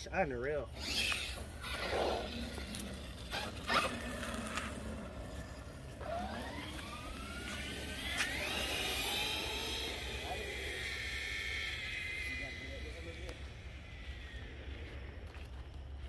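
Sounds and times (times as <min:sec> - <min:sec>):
electric motor whining: 0:00.7 - 0:16.0.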